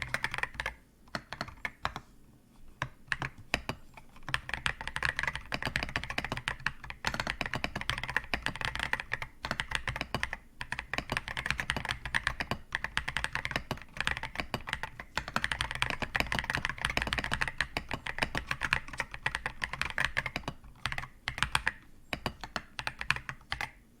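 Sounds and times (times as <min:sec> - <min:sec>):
fast typing on mechanical keyboard: 0:00.0 - 0:02.0, 0:02.8 - 0:23.8.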